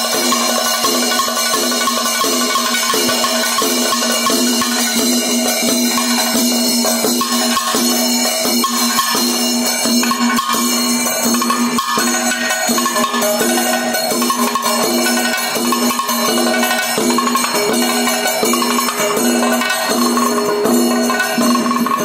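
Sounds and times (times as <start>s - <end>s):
clashing cymbals: 0.0s - 22.0s
drums struck with sticks: 0.0s - 22.0s
hand drum: 0.0s - 22.0s.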